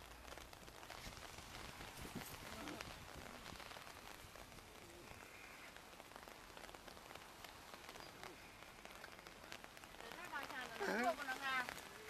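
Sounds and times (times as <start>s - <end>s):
light rain hissing: 0.0s - 12.0s
raindrops ticking on umbrella: 0.0s - 12.0s.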